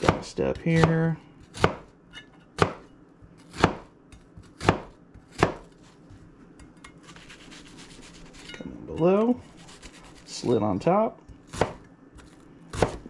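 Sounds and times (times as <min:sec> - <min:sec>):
knife cutting onion on board: 0:00.0 - 0:06.2, 0:06.8 - 0:08.6, 0:09.2 - 0:10.4, 0:11.3 - 0:13.0.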